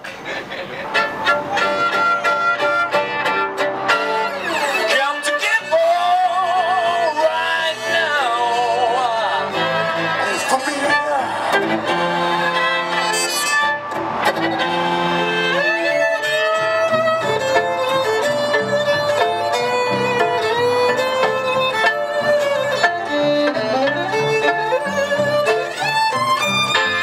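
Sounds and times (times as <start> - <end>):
live band accompaniment: 0.0 - 27.0
violin playing lively melody: 0.5 - 27.0.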